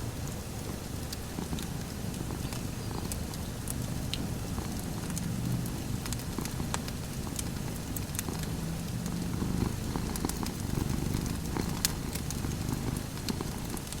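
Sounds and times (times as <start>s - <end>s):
cat purring: 0.0s - 14.0s
wood fire crackling and popping: 0.2s - 14.0s.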